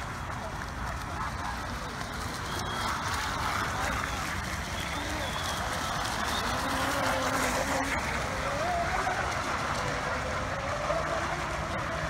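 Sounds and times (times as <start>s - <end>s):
racing boat motors whining: 0.0s - 12.0s.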